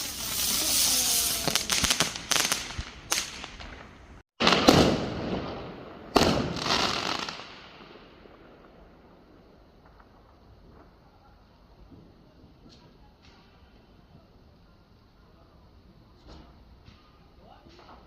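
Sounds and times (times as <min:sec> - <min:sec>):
fireworks cracking and popping: 0:00.0 - 0:14.6, 0:15.9 - 0:18.0.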